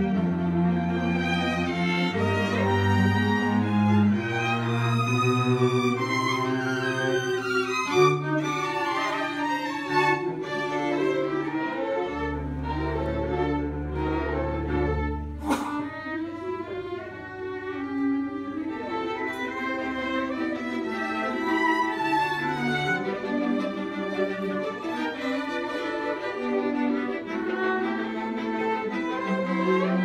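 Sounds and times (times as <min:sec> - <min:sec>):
string orchestra playing: 0:00.0 - 0:30.0.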